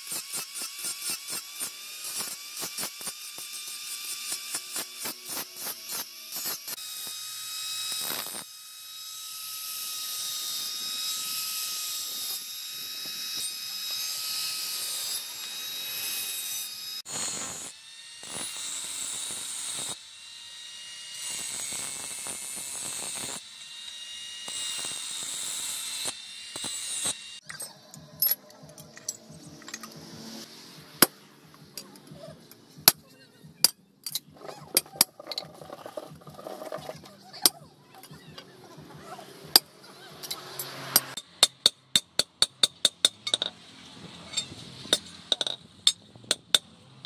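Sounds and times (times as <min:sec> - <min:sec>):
angle grinder grinding steel: 0:00.0 - 0:33.0, 0:33.6 - 0:47.0.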